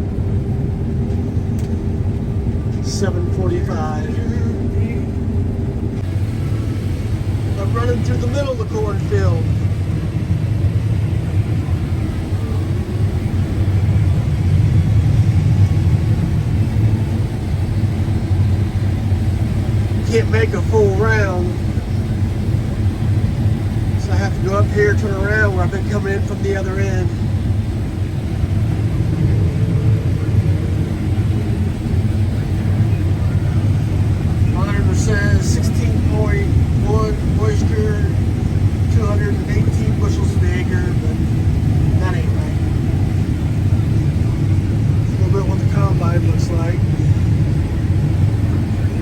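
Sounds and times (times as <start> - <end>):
combine harvester engine rumbling: 0.0 - 49.0.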